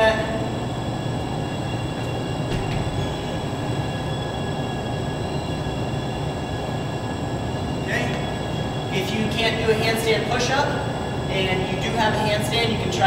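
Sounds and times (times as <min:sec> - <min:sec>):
faint high whining tones: 0:00.0 - 0:13.0
steady low rumble: 0:00.0 - 0:13.0.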